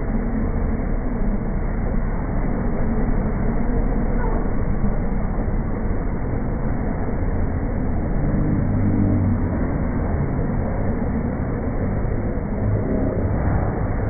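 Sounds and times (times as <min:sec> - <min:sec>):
carnival ride mechanical rumble: 0:00.0 - 0:14.0
steady hum: 0:00.0 - 0:14.0.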